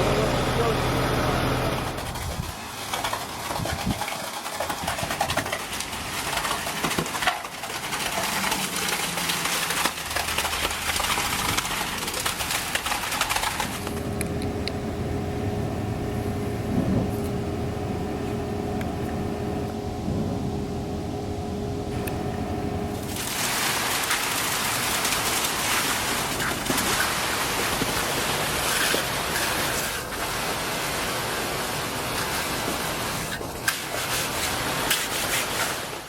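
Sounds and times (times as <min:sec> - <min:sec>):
cement truck running: 0:00.0 - 0:21.1, 0:21.8 - 0:36.0.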